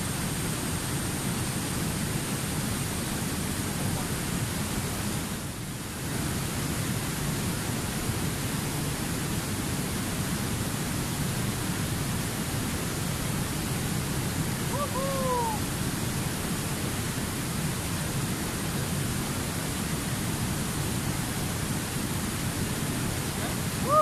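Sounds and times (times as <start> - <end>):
river rapids rushing: 0.1 - 24.0.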